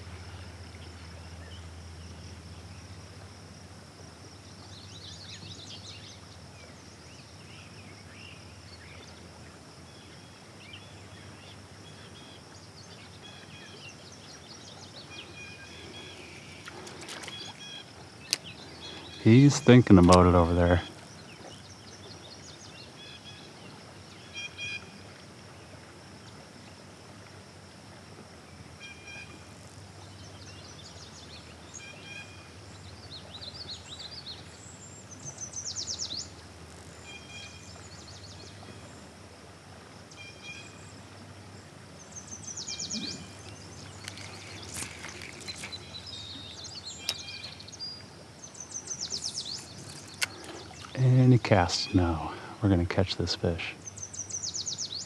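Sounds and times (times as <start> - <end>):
faint background hiss: 0.0 - 55.0
songbirds chirping and trilling: 4.2 - 26.8, 28.8 - 55.0.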